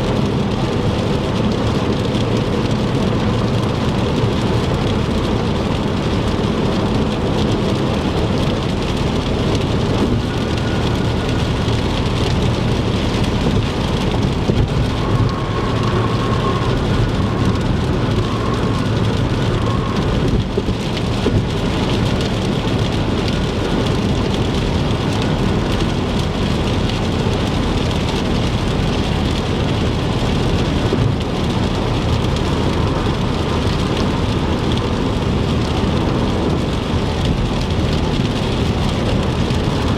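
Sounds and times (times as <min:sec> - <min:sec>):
heavy rain on a car: 0:00.0 - 0:39.9
tyres on wet road: 0:00.0 - 0:39.9.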